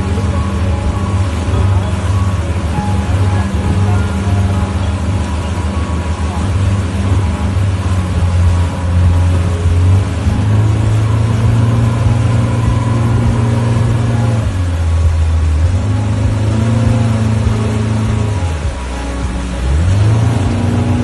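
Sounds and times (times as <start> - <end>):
motorboat engine running: 0.0 - 21.0
wind and water rushing: 0.0 - 21.0.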